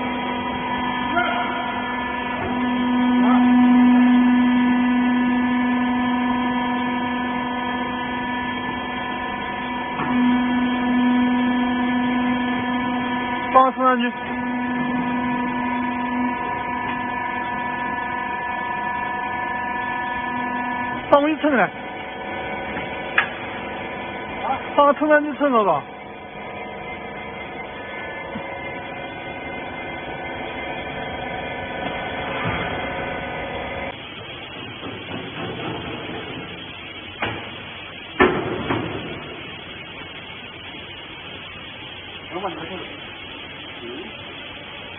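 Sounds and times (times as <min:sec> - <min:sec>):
hydraulic pump motor humming: 0:00.0 - 0:44.9.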